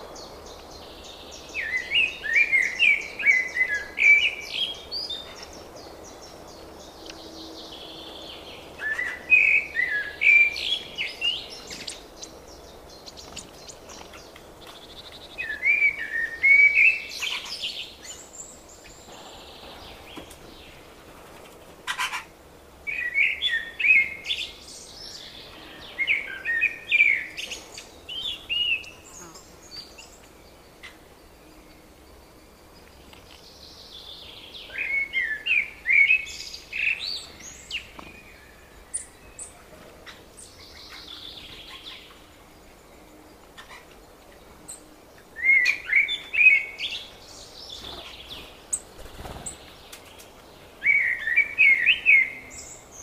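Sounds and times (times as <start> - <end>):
faint background hiss: 0.0 - 53.0.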